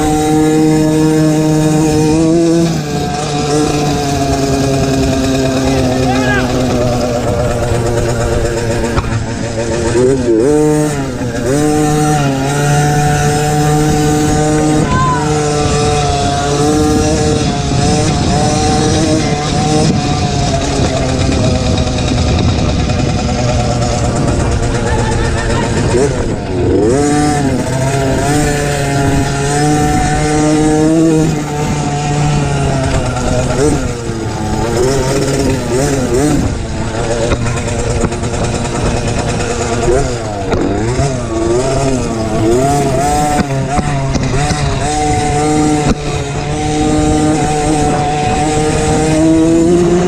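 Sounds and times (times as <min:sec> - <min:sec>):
mini motocross bike engine revving: 0:00.0 - 0:50.0.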